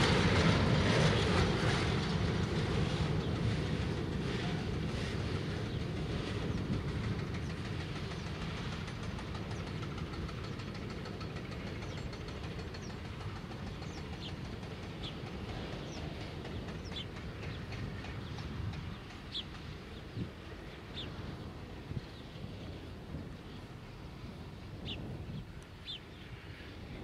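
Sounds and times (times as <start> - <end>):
diesel locomotive engine rumbling: 0.0 - 27.0.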